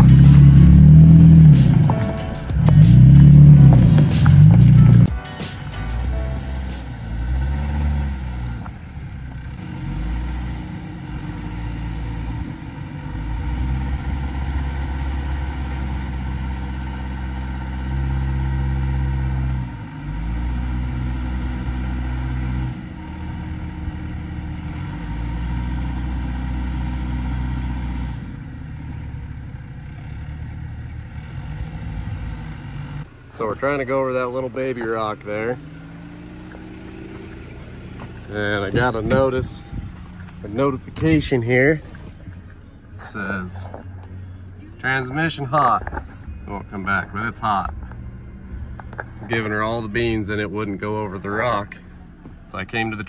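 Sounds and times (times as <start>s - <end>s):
pickup truck engine pulling: 0.0s - 5.2s, 5.8s - 53.0s.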